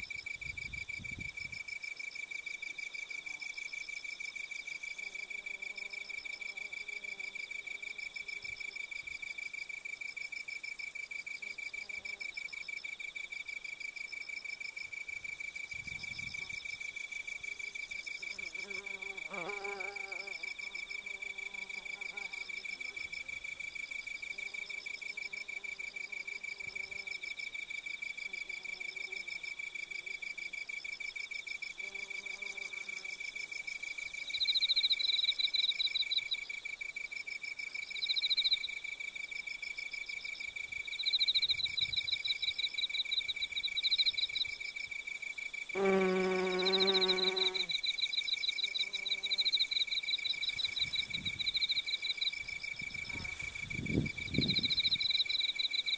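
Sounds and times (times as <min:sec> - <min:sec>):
insect chirping: 0:00.0 - 0:55.9
insects trilling: 0:00.0 - 0:55.9.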